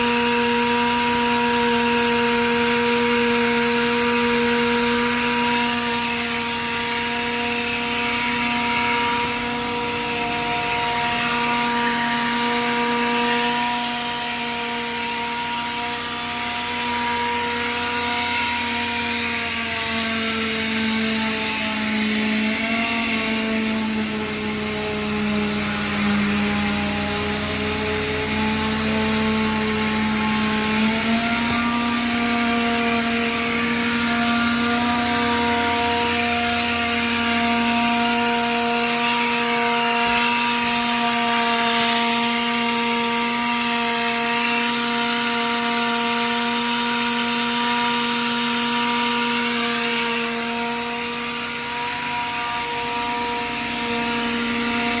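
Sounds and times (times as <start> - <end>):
grinding machine motor whine: 0.0 - 55.0.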